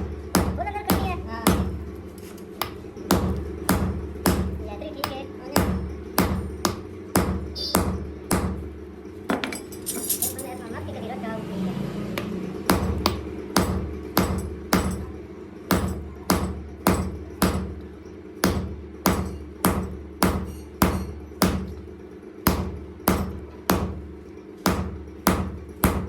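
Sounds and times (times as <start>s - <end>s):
hammer striking steel: 0.0s - 8.7s, 12.6s - 26.0s
machine hum: 0.0s - 26.0s.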